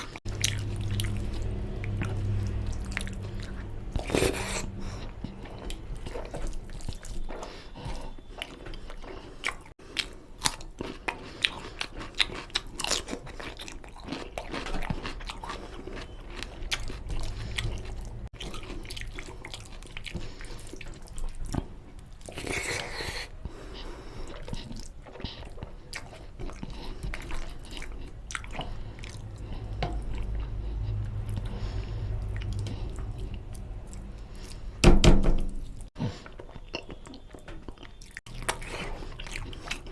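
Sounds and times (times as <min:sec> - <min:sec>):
close-up chewing and wet smacks: 0:00.0 - 0:34.6, 0:35.6 - 0:39.9.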